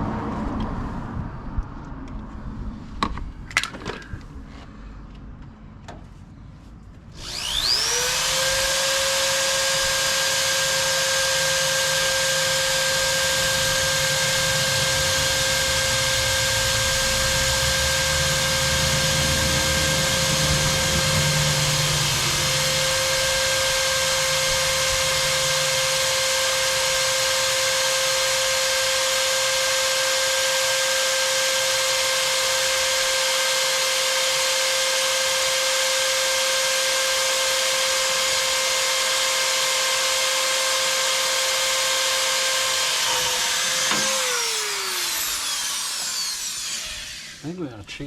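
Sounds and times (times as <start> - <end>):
electric drill drilling steel: 7.1 - 47.7.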